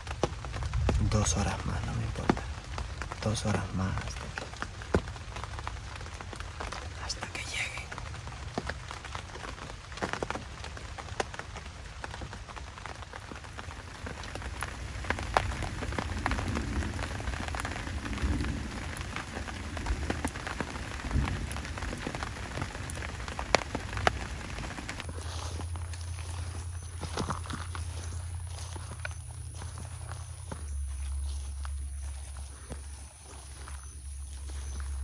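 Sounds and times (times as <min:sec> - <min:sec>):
steady low rumble: 0:00.0 - 0:08.6, 0:14.0 - 0:35.0
rain drops on fabric: 0:00.0 - 0:35.0.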